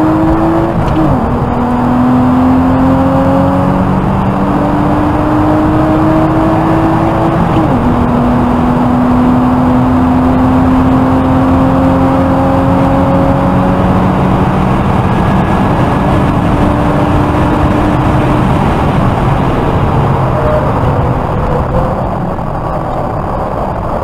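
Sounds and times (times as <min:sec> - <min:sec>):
car engine at high revs: 0:00.0 - 0:24.0
wind noise: 0:00.0 - 0:24.0.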